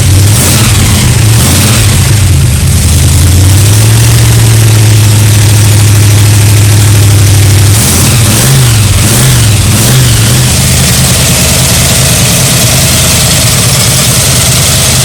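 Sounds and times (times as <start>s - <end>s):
supercharged engine running loud: 0.0s - 15.0s.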